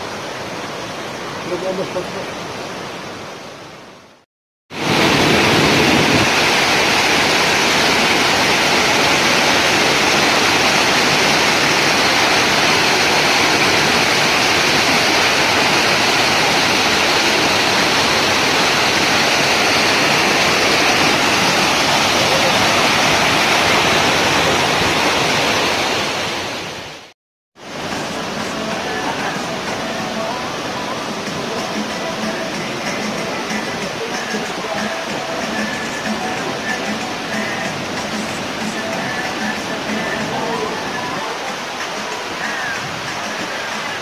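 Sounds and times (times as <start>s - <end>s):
water rushing over rocks: 0.0s - 44.0s.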